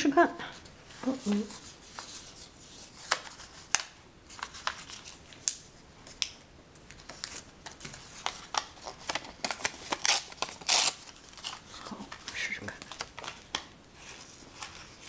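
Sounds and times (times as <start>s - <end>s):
paper folding and crackling: 0.9s - 15.0s.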